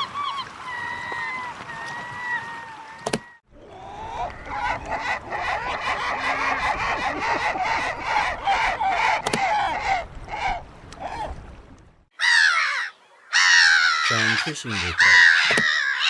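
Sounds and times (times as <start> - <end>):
gulls calling: 0.0 - 11.4, 12.1 - 16.0.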